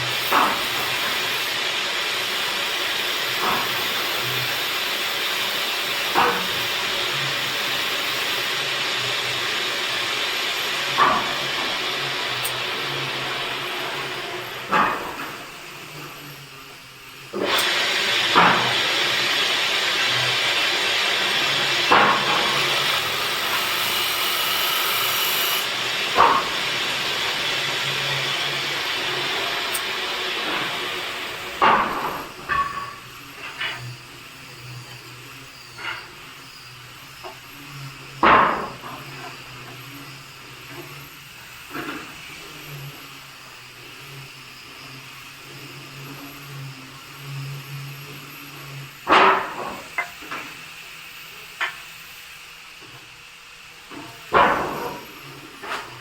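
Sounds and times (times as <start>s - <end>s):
woodworking machine hissing: 0.0s - 56.0s.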